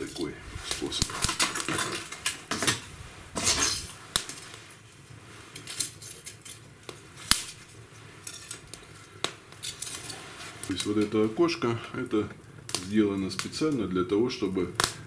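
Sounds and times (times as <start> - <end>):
fire crackling pops: 0.0 - 15.0.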